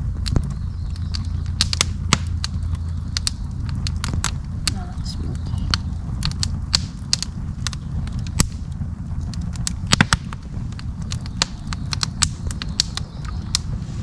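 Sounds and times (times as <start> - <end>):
campfire crackling: 0.0 - 14.0
low steady rumble: 0.0 - 14.0
sharp fire pops: 0.0 - 14.0.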